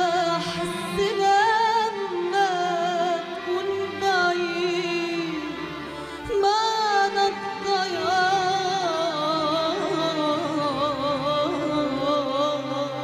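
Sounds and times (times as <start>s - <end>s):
string orchestra: 0.0s - 13.0s
woman singing with vibrato: 0.0s - 13.0s.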